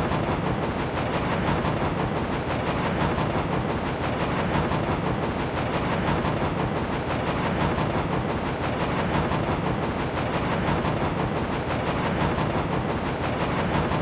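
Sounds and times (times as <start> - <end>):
steam locomotive chuffing: 0.0 - 14.0.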